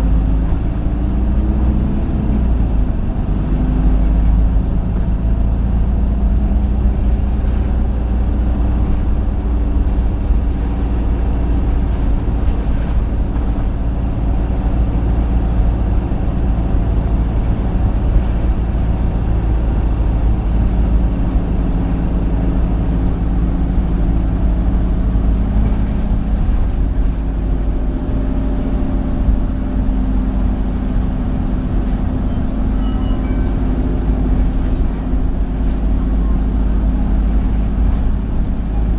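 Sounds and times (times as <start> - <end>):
bus diesel engine rumble: 0.0 - 38.9.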